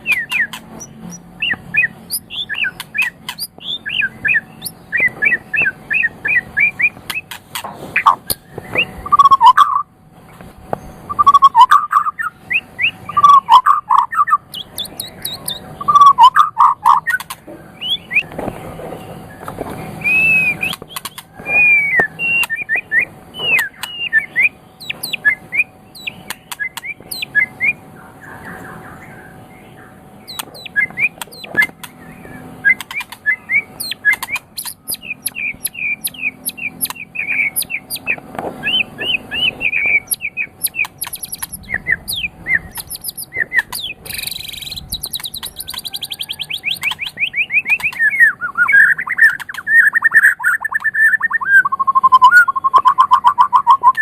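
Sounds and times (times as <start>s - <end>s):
bird singing whistled song: 0.0s - 7.4s, 8.0s - 9.9s, 10.8s - 18.4s, 19.3s - 27.8s, 28.9s - 54.0s
sharp ticking bird notes: 0.0s - 9.9s, 10.7s - 18.5s, 19.1s - 54.0s.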